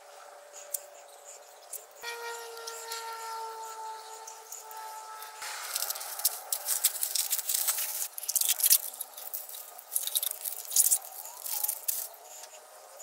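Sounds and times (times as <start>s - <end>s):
masking tape peeling and crumpling: 1.7s - 12.5s.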